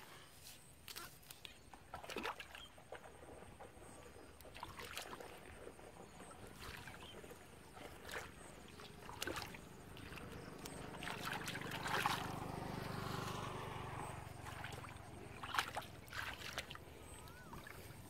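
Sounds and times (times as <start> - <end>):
muddy water splashing: 0.8 - 18.0.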